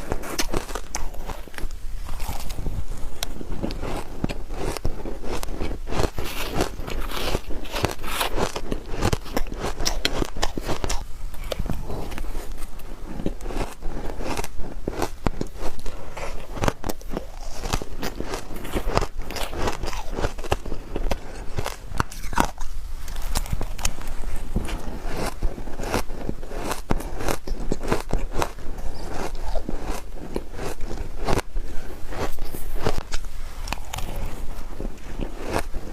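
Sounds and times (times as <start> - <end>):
chewing shaved ice: 0.0 - 35.9.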